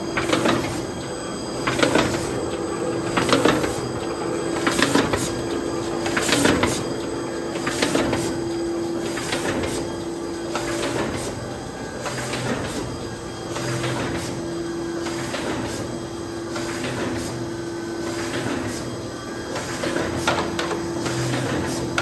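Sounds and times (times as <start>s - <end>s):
machine mechanical hum: 0.0s - 22.0s.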